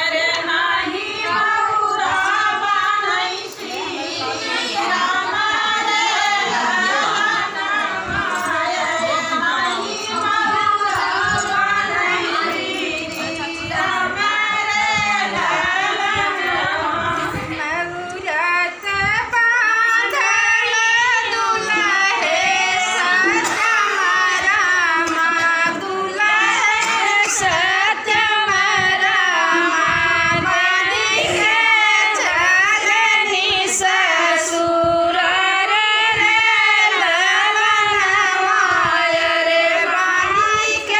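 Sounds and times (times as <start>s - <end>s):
women singing folk song: 0.0s - 40.9s.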